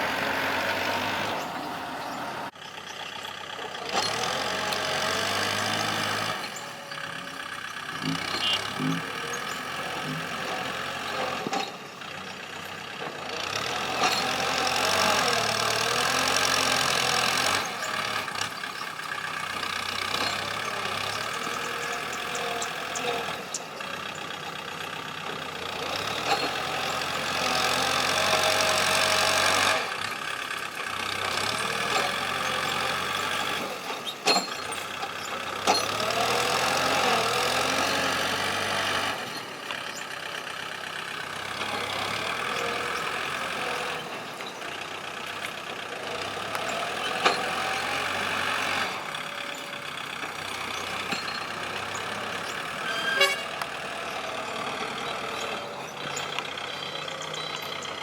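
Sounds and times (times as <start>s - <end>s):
excavator diesel engine and hydraulics: 0.0s - 58.0s.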